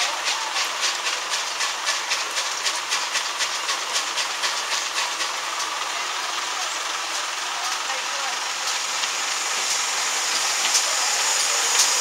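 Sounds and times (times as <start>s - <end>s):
steam hissing: 0.0s - 12.0s
steam locomotive chuffing: 0.0s - 12.0s.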